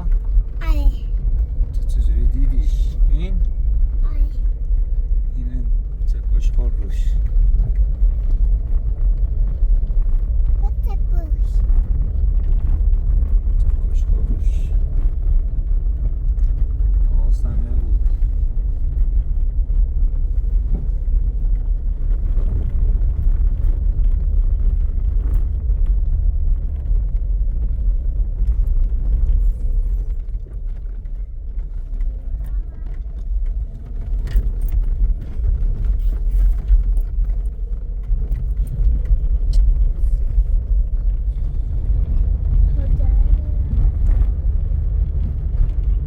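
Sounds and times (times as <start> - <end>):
car engine and road rumble: 0.0 - 46.0
small clicks and rattles: 5.8 - 46.0.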